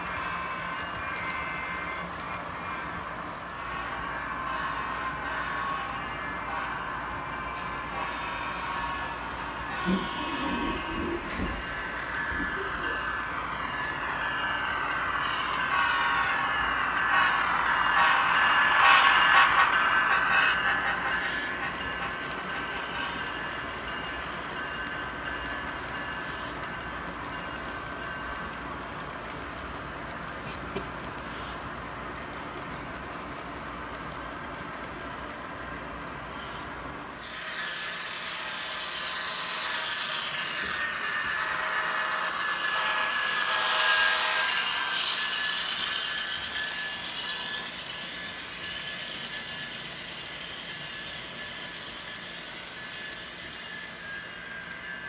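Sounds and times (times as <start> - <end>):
thin high whine: 0.0 - 55.0
model train wheels rumbling: 7.6 - 55.0.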